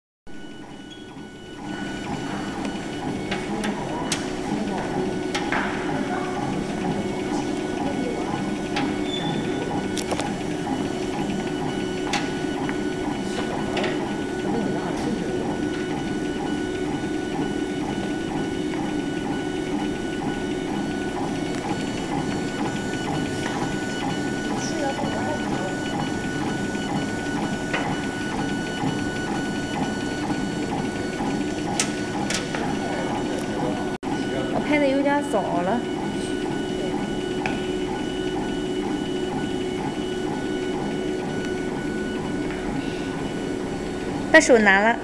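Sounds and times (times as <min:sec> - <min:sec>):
steady machine hum: 0:00.3 - 0:45.0
mechanical whirr of laser engraver: 0:00.4 - 0:44.6.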